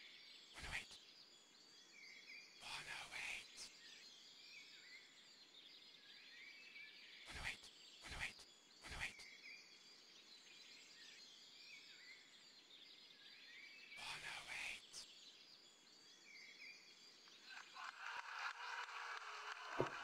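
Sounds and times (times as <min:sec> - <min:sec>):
small birds chirping: 0:00.0 - 0:17.8.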